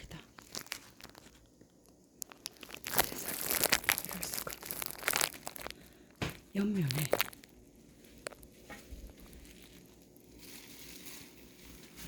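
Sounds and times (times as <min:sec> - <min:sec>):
rustling and crinkling handling: 0:00.0 - 0:12.0.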